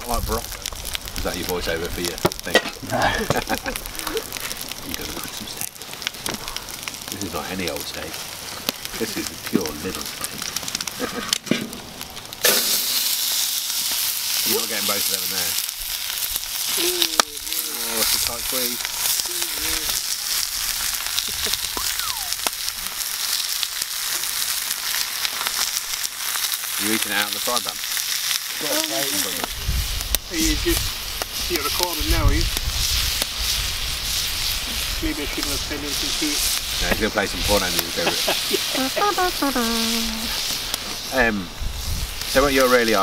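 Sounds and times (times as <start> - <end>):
steaks sizzling in a skillet: 0.0 - 43.0.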